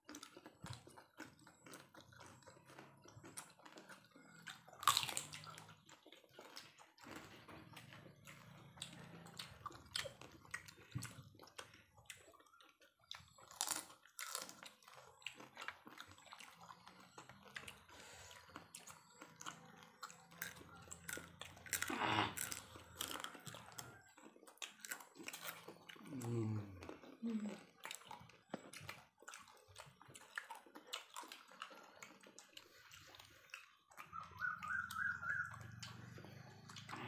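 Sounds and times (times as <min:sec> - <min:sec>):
chewing food: 0:00.0 - 0:37.0
food crunching: 0:00.0 - 0:37.0.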